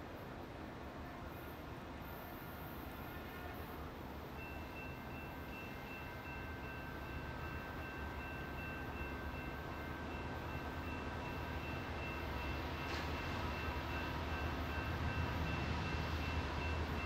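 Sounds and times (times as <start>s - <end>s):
train low rumble: 0.0s - 17.0s
faint high-pitched ringing: 3.2s - 17.0s.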